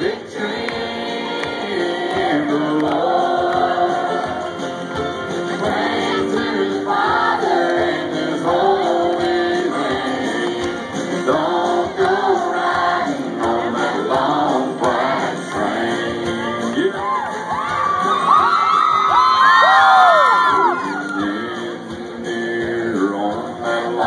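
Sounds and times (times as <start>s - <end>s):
person singing: 0.0s - 4.7s, 5.4s - 17.5s, 20.1s - 24.0s
acoustic guitar: 0.0s - 24.0s
live country band playing: 0.0s - 24.0s.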